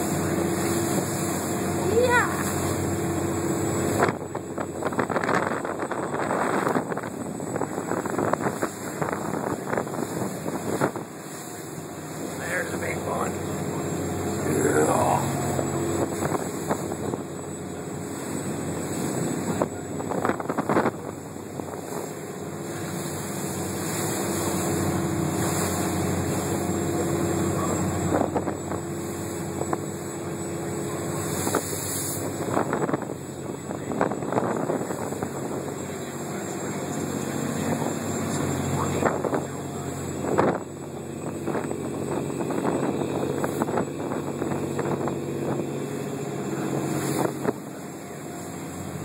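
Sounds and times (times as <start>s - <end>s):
boat engine running: 0.0s - 49.0s
hull wash through waves: 0.0s - 49.0s
wind buffeting microphone: 0.0s - 49.0s.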